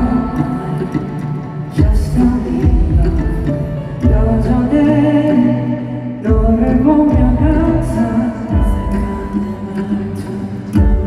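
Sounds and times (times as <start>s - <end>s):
backing music with bass thumps: 0.0s - 5.0s, 6.2s - 9.6s, 10.2s - 11.0s
man singing into microphone: 0.0s - 11.0s.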